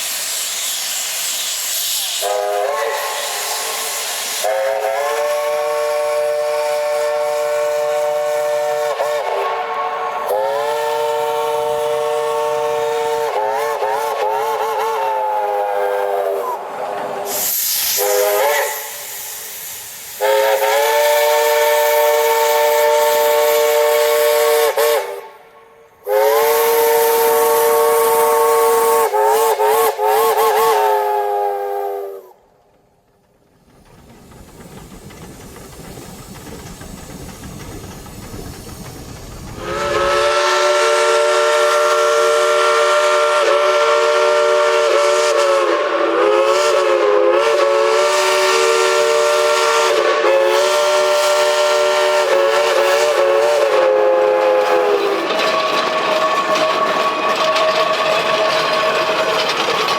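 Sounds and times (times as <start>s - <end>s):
steam locomotive chime whistle: 0.0s - 32.6s, 39.6s - 59.9s
steam hiss: 0.0s - 59.9s.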